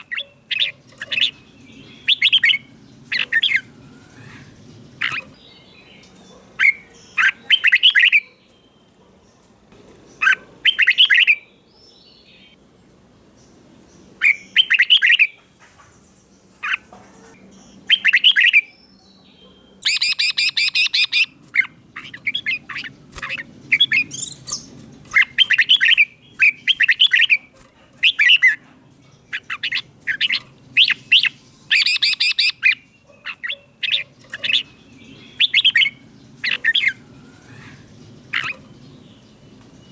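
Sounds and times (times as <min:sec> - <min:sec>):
bulbul singing whistled phrases: 0:00.0 - 0:08.9, 0:10.2 - 0:12.6, 0:14.2 - 0:15.4, 0:17.6 - 0:28.6, 0:29.3 - 0:39.0.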